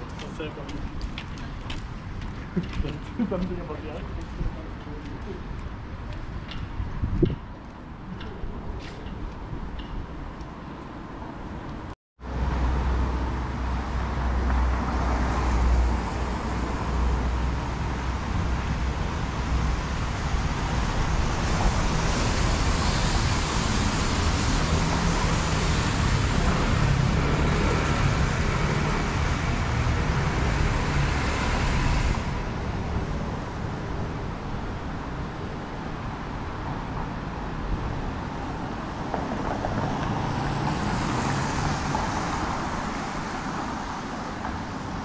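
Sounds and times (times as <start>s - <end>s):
city traffic noise: 0.0s - 45.0s.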